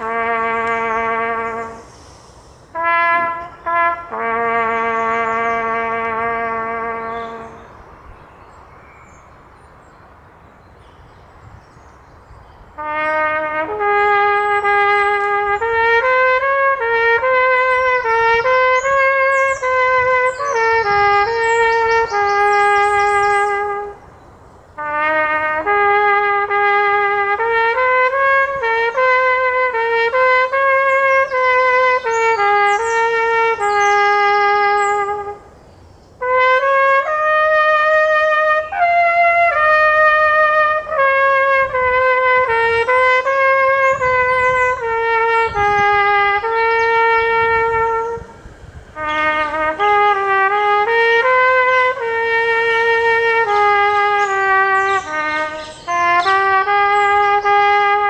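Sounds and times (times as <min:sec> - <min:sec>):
solo trumpet slow melody: 0:00.0 - 0:08.1, 0:11.6 - 0:58.0.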